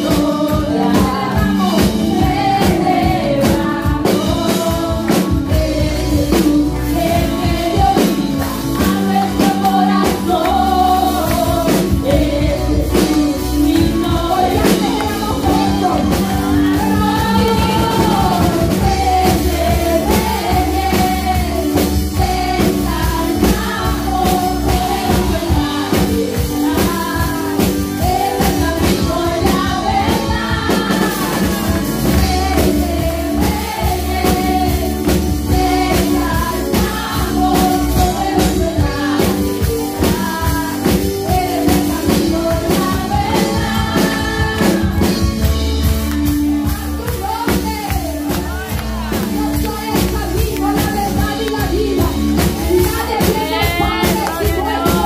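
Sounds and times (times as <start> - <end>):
drums: 0.0 - 55.0
steady bass line: 0.0 - 55.0
women singing worship song: 0.0 - 55.0.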